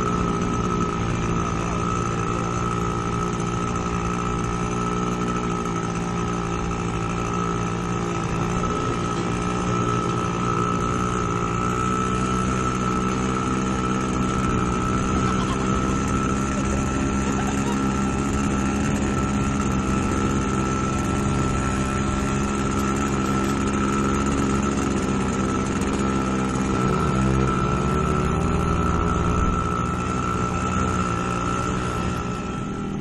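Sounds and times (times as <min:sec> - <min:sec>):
two-stroke motorcycle engine running: 0:00.0 - 0:33.0.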